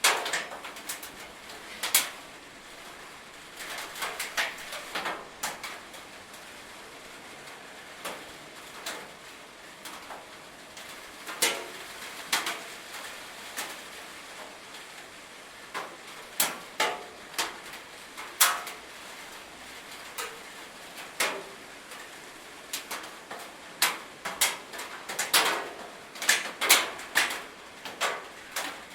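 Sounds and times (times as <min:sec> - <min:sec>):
rain on a metal roof: 0:00.0 - 0:28.9.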